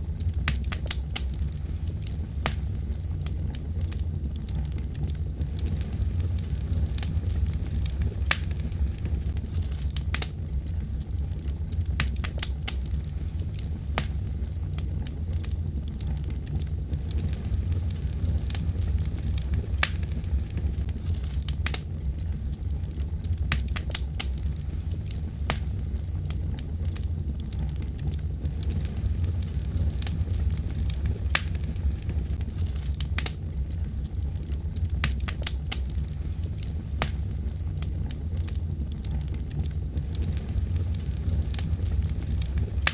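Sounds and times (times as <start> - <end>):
fire crackling and popping: 0.0 - 42.9
wood fire burning: 0.0 - 42.9.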